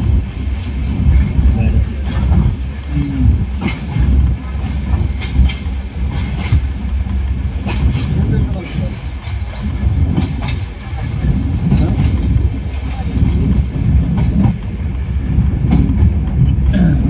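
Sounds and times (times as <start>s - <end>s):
train wheels rumbling on rails: 0.0s - 17.0s
wheels clicking over rail joints: 0.0s - 17.0s.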